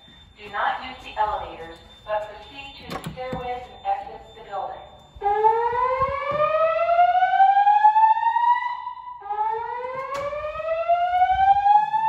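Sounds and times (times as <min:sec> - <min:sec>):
fire alarm whoop tone: 0:00.0 - 0:12.0.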